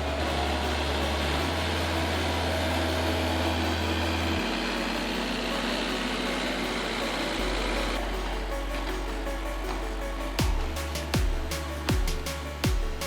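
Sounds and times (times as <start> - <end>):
heavy machine engine running: 0.0 - 10.8
background music with bass: 0.0 - 13.0.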